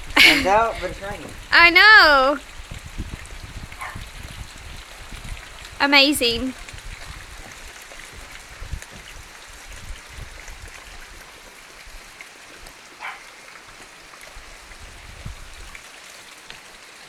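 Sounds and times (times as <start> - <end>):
rain hissing: 0.0 - 17.0
raindrops tapping: 0.0 - 17.0.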